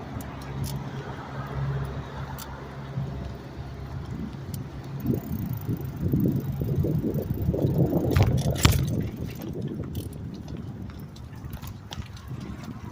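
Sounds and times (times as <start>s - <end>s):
wind rumbling on microphone: 0.0s - 12.9s.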